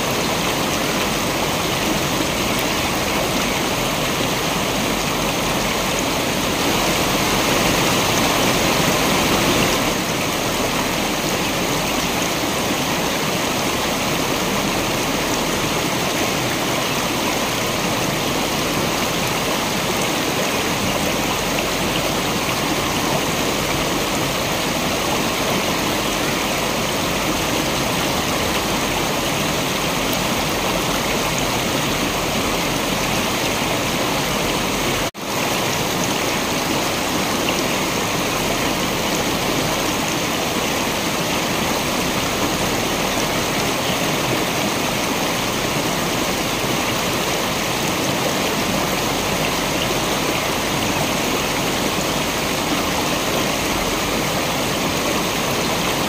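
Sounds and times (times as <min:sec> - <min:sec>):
waterfall and stream rushing: 0:00.0 - 0:56.0.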